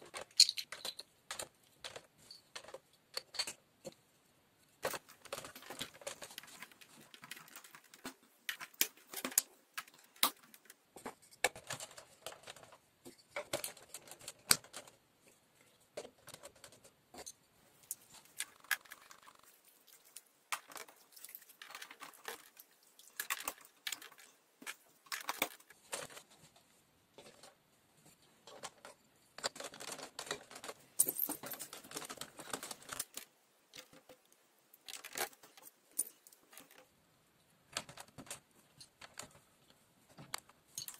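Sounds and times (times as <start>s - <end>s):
plastic bricks clicking: 0.0s - 3.9s, 4.8s - 15.0s, 16.0s - 26.2s, 28.5s - 36.8s, 40.2s - 40.9s.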